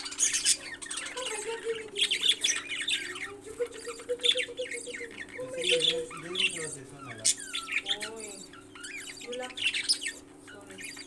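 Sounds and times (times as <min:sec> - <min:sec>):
parrots squawking: 0:00.0 - 0:11.0
steady low hum: 0:00.0 - 0:11.0.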